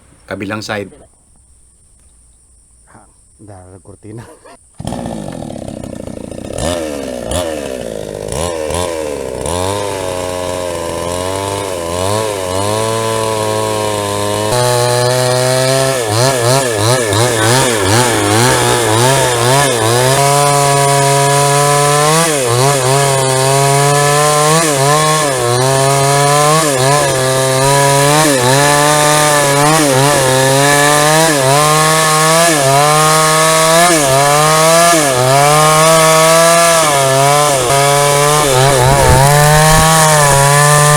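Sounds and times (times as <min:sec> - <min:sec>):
chainsaw sawing log: 0:04.2 - 0:40.9.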